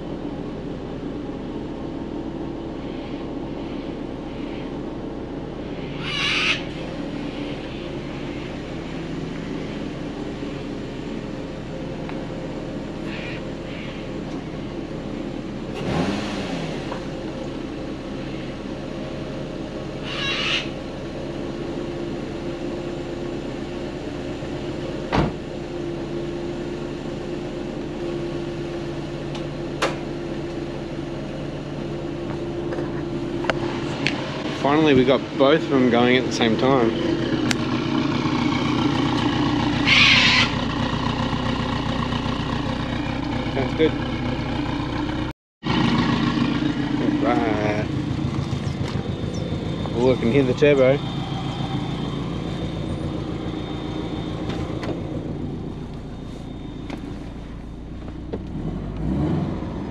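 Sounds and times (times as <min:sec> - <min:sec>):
car engines idling: 0:00.0 - 0:59.9.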